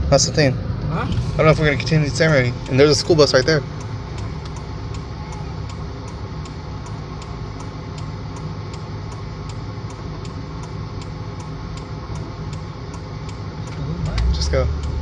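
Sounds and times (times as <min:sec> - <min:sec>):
engine and road rumble: 0:00.0 - 0:15.0
turn signal ticking: 0:02.1 - 0:15.0.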